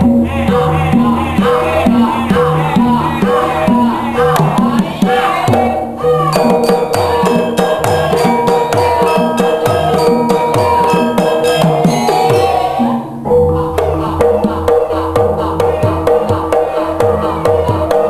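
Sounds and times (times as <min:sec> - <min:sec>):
sustained instrument tones: 0:00.0 - 0:18.0.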